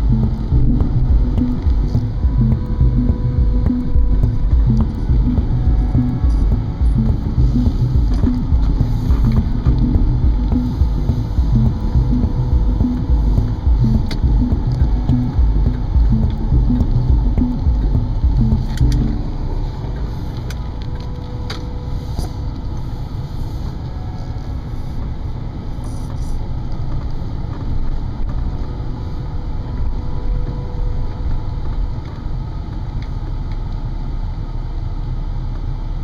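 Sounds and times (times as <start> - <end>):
car driving on wet road: 0.0 - 36.0.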